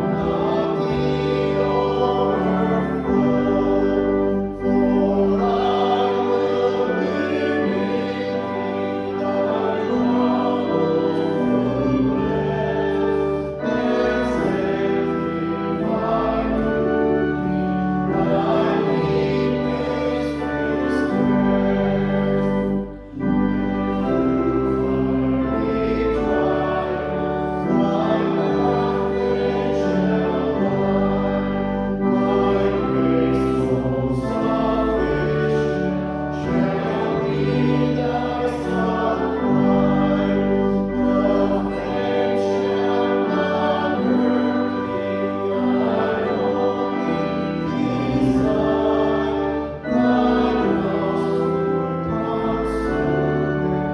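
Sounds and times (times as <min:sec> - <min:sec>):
congregation singing a hymn: 0:00.0 - 0:53.9
organ chords: 0:00.0 - 0:53.9.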